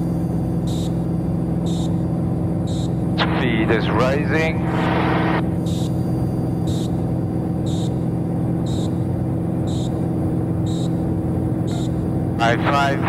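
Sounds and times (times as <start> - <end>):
airplane engine at full power: 0.0 - 13.0.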